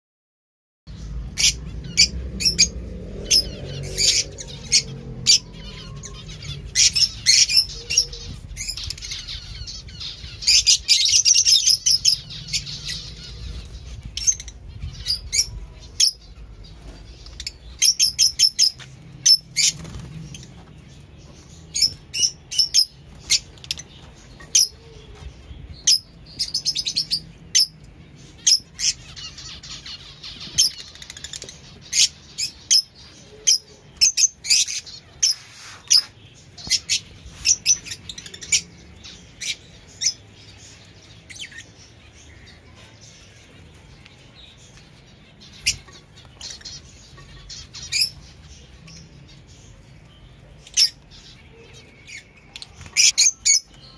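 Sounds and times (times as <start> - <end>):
lovebirds chirping: 0.9 - 53.9.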